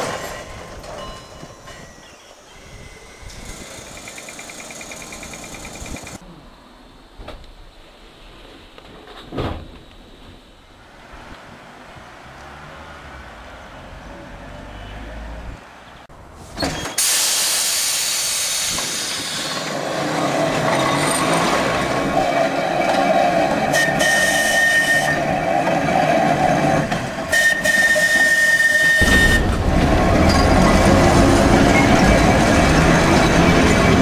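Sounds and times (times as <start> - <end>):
electric tram rolling on rails: 0.0 - 14.7, 15.3 - 34.0.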